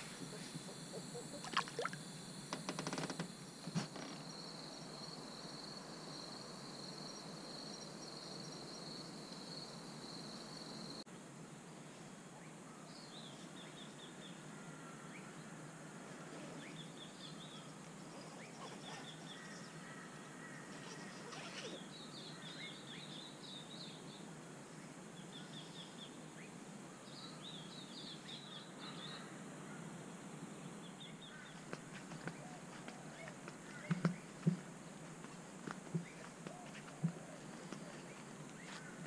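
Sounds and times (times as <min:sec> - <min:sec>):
faint outdoor hiss: 0:00.0 - 0:39.0.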